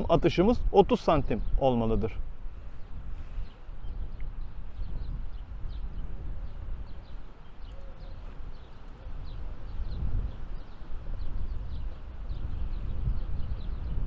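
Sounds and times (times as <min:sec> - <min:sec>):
small birds chirping: 0:00.0 - 0:14.0
wind rumbling on microphone: 0:00.0 - 0:14.0.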